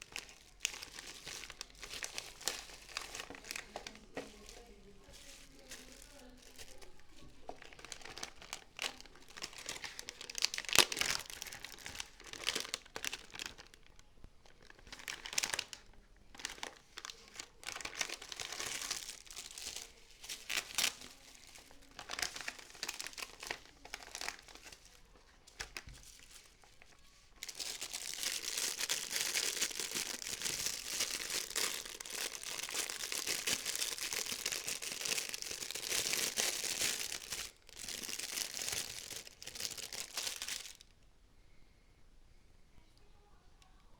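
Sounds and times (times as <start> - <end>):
plastic packaging crinkling: 0.0 - 40.9.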